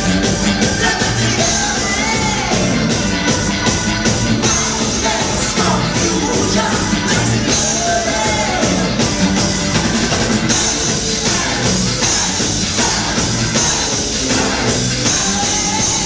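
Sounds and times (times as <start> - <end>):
bass guitar: 0.0 - 16.0
drum kit: 0.0 - 16.0
electric guitar: 0.0 - 16.0
keyboard: 0.0 - 16.0.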